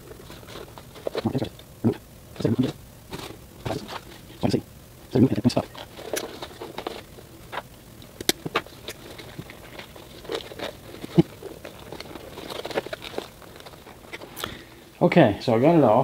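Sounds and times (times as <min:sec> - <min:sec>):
plastic packaging rustling: 0:00.0 - 0:01.7, 0:02.3 - 0:14.8.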